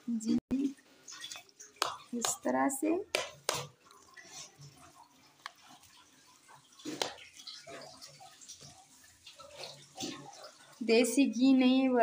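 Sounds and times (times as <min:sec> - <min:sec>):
spoon stirring wet food: 0:01.0 - 0:11.2.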